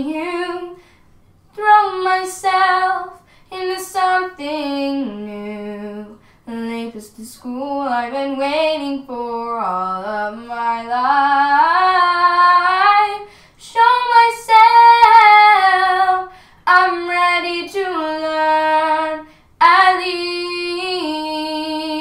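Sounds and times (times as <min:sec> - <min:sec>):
girl singing unaccompanied: 0:00.0 - 0:00.8, 0:01.5 - 0:22.0.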